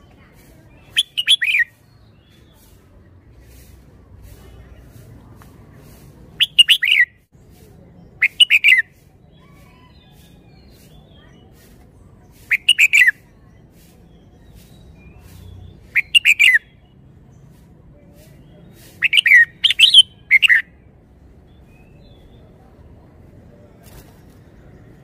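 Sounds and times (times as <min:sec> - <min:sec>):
bird singing warbled phrases: 0:00.0 - 0:02.7, 0:06.3 - 0:17.6, 0:18.3 - 0:25.0.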